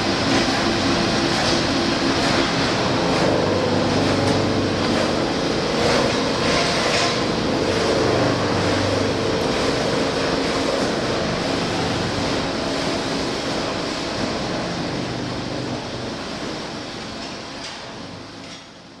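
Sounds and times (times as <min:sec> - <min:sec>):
machinery running: 0:00.0 - 0:18.4.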